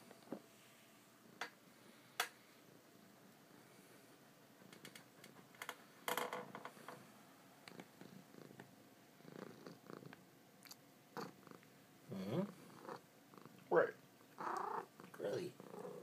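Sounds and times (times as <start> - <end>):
cat purring: 1.2 - 16.0.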